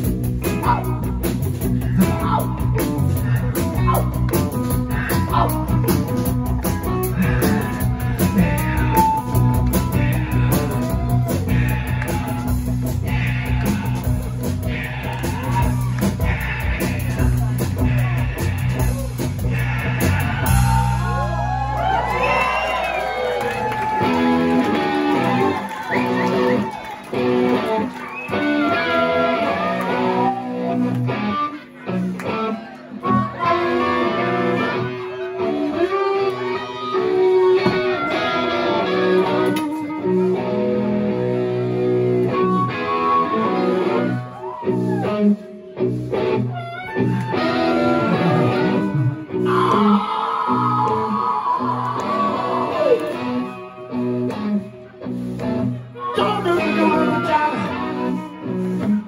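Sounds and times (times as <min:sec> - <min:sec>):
drums: 0:00.0 - 0:59.0
electric guitar lines: 0:00.0 - 0:59.0.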